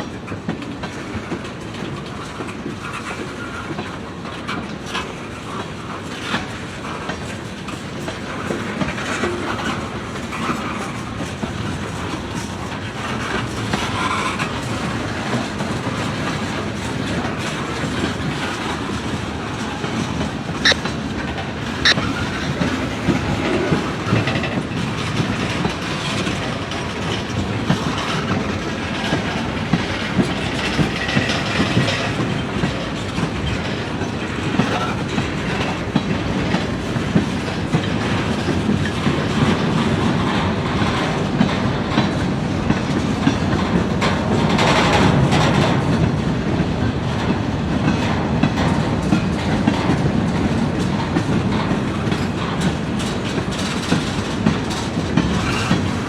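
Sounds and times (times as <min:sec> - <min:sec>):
freight train rolling past: 0:00.0 - 0:56.0
wheels clicking over rail joints: 0:00.0 - 0:56.0.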